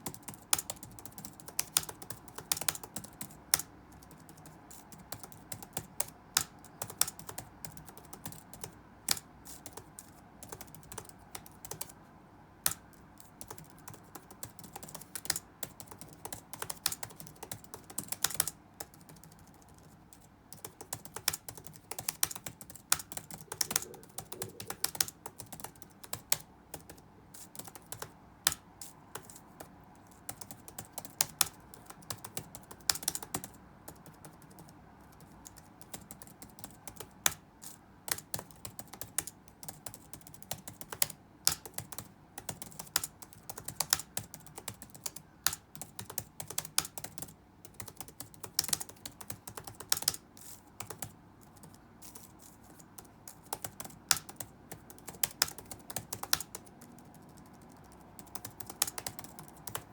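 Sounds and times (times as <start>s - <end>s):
typing on computer keyboard: 0.0s - 12.0s, 12.6s - 59.9s
low background hum: 0.0s - 59.9s.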